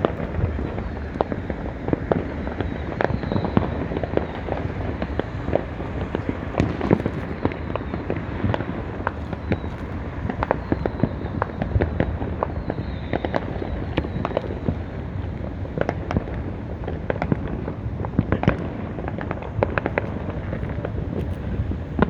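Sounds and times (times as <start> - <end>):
fireworks bangs and crackles: 0.0 - 22.0
low rumble of distant explosions: 0.0 - 22.0.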